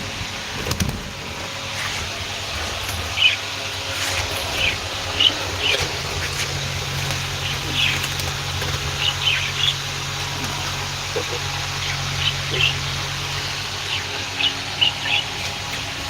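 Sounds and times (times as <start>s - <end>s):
steady low hum: 0.0s - 16.0s
budgerigars chirping: 3.0s - 16.0s.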